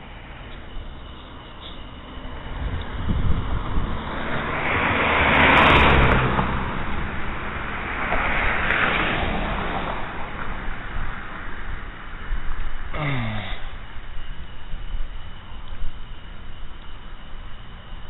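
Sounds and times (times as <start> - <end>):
cars passing by: 0.0 - 18.0.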